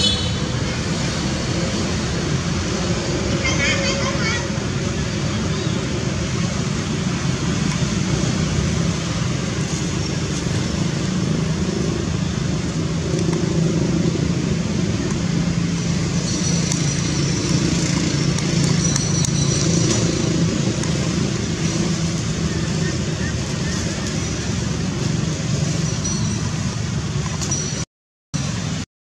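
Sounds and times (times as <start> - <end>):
engine hum: 0.0 - 27.6.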